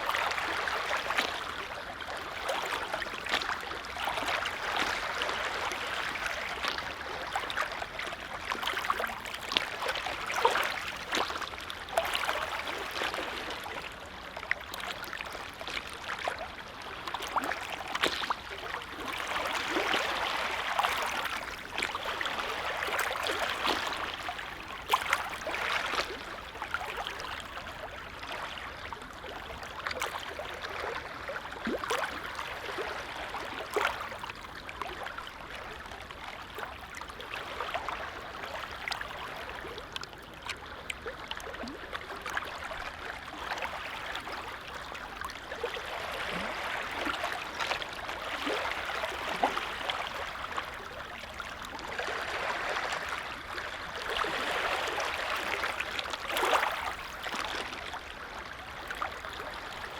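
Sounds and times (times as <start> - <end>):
small waves lapping: 0.0 - 59.9.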